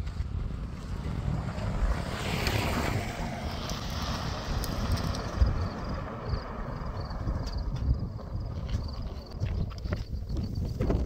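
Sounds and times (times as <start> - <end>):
rush of wind: 0.0 - 11.0
wind buffeting microphone: 0.0 - 11.0.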